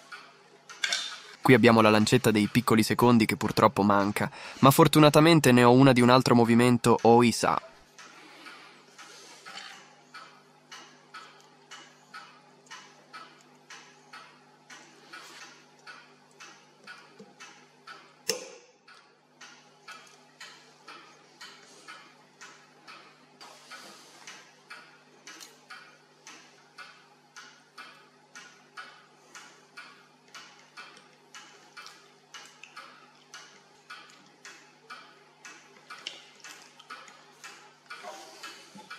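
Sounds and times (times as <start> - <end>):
clock ticking: 1.4 - 38.9.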